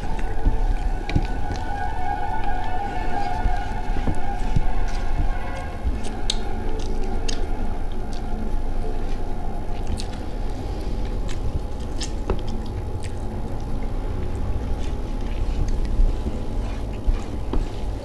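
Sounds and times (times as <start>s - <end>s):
chewing with wet mouth clicks: 0.0s - 18.0s
steady low background noise: 0.0s - 18.0s.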